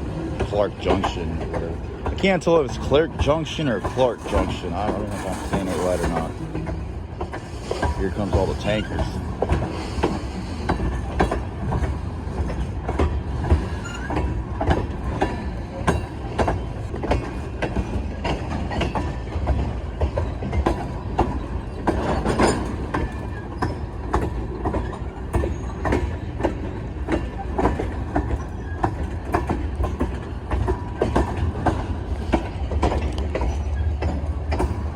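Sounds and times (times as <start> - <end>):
train low rumble: 0.0 - 34.9
train wheels clacking over rail joints: 0.0 - 34.9.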